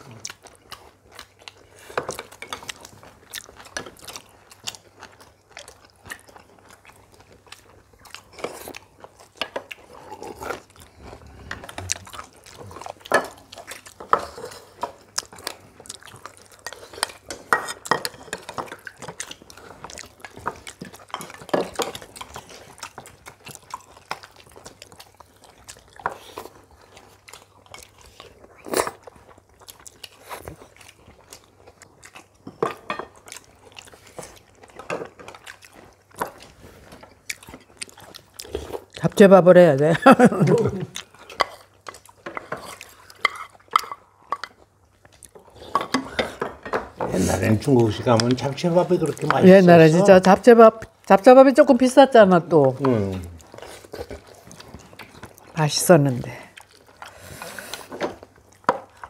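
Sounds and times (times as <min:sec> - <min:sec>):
chewing: 0:00.0 - 0:51.8, 0:52.6 - 0:59.0.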